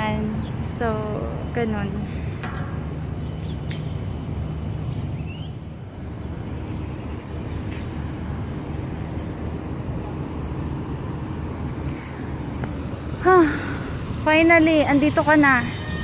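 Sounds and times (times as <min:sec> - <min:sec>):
car engine rumbling: 0:00.0 - 0:15.7.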